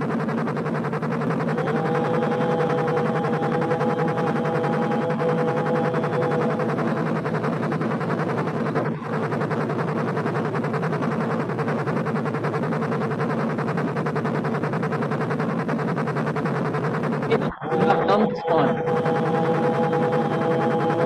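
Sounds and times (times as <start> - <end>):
drone tones: 0.0 - 21.0
helicopter sound: 0.0 - 21.0.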